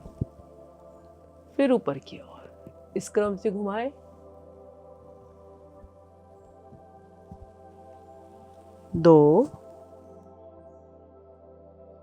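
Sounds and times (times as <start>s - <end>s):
ambient music with sustained tones: 0.0s - 12.0s.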